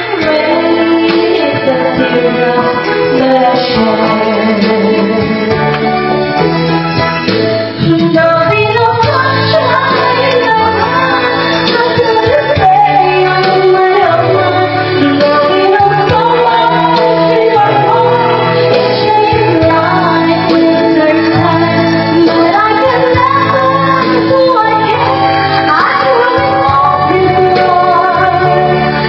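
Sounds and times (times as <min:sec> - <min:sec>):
woman singing into microphone: 0:00.0 - 0:06.4, 0:07.7 - 0:29.0
backing music: 0:00.0 - 0:29.0.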